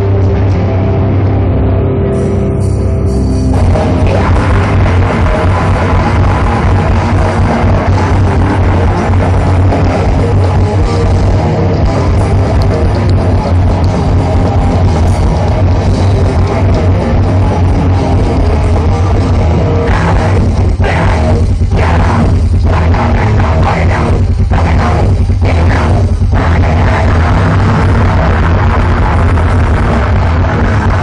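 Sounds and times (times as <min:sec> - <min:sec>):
grindcore band playing live: 0:00.0 - 0:31.0.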